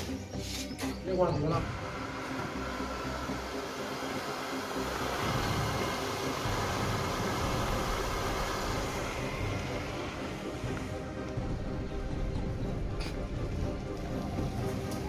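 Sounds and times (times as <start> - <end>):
electric water pump humming: 1.4 - 15.0.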